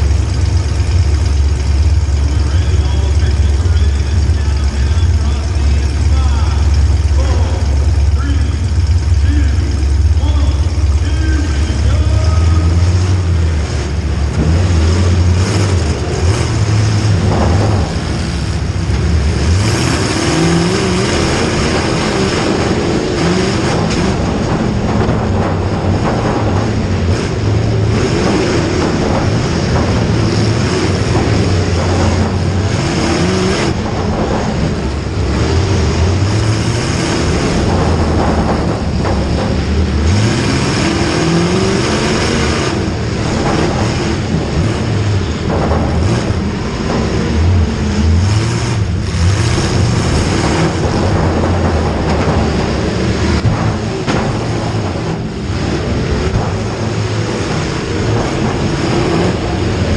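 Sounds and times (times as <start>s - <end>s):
low rumble: 0.0s - 59.9s
vehicle engines revving: 0.0s - 59.9s.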